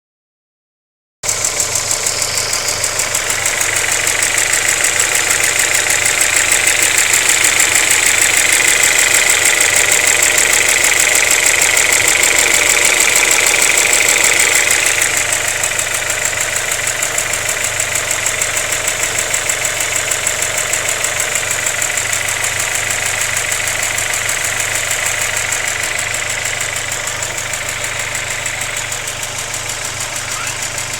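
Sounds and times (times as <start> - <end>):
car engine idling: 1.2 - 30.9
fast steady engine ticking: 1.2 - 30.9.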